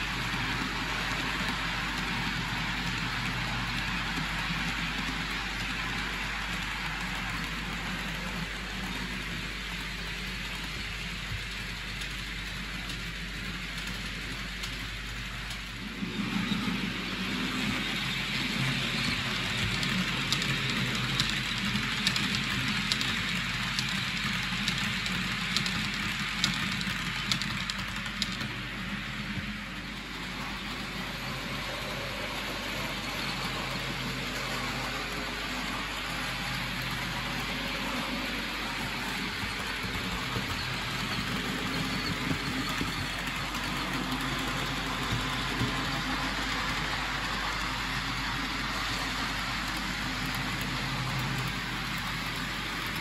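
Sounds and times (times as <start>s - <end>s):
model train wheels rolling on track: 0.0s - 53.0s.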